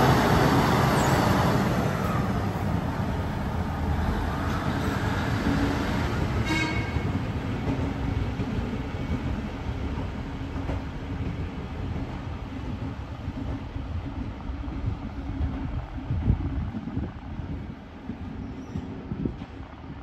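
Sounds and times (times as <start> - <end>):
diesel railcar engine running: 0.0 - 20.0
train wheels rumbling on track: 0.0 - 20.0.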